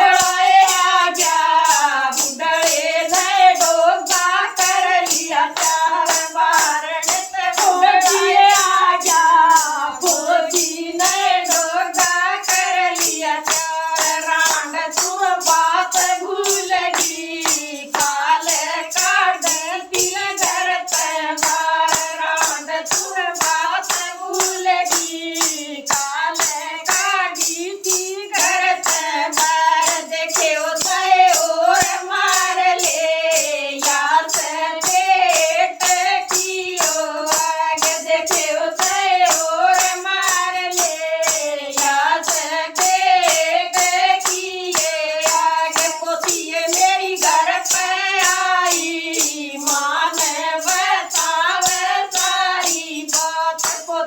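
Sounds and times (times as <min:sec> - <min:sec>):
jingling percussion: 0:00.0 - 0:54.0
women singing: 0:00.0 - 0:54.0.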